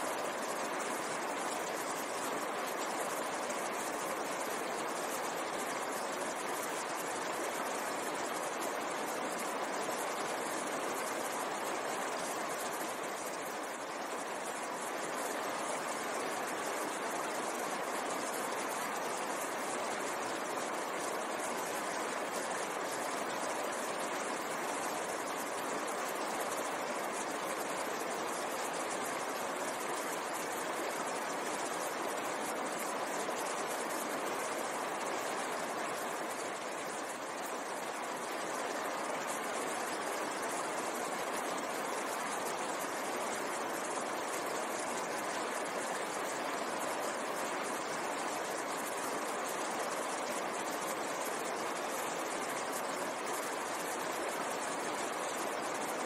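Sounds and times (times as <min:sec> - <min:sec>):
stream rushing over boulders: 0:00.0 - 0:56.0.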